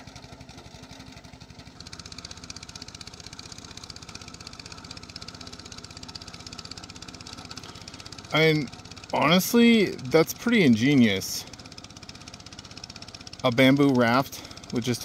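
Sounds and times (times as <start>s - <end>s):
boat motor putter: 0.0s - 15.0s.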